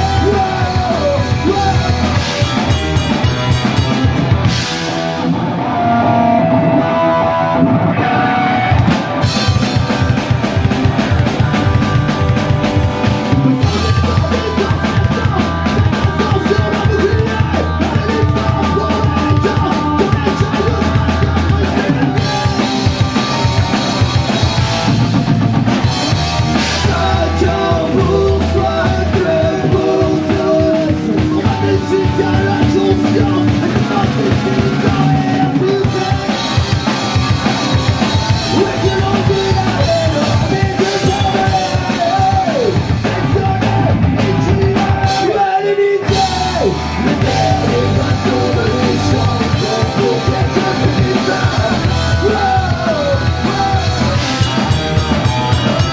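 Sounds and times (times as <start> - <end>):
person singing: 0.0 - 3.5, 5.7 - 25.3, 25.9 - 55.9
punk rock band playing: 0.0 - 55.9.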